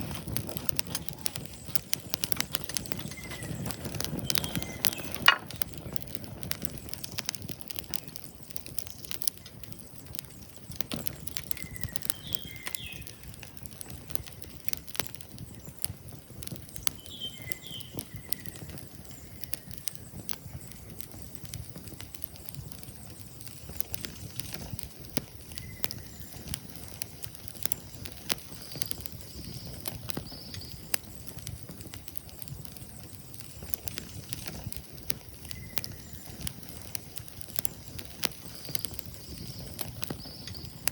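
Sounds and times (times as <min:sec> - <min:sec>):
wood fire crackling and popping: 0:00.0 - 0:40.9
birds chirping: 0:00.3 - 0:40.9.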